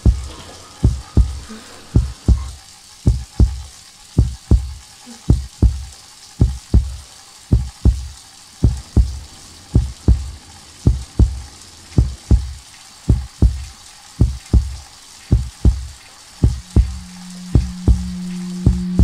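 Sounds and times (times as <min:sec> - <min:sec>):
heartbeat double thump: 0:00.0 - 0:01.4, 0:02.0 - 0:09.2, 0:09.8 - 0:19.0
faint hiss: 0:00.0 - 0:19.0.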